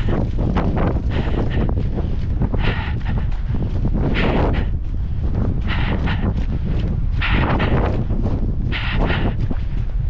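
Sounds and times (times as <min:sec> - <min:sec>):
runner breathing hard: 0:00.0 - 0:10.0
wind buffeting microphone: 0:00.0 - 0:10.0.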